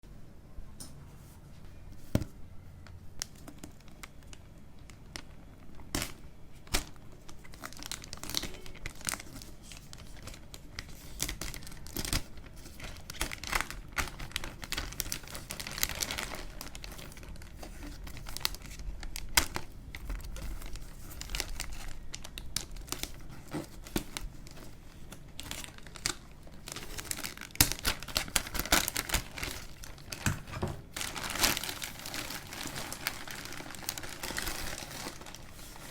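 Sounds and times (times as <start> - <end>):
packaging crinkling and tearing: 2.8 - 35.9.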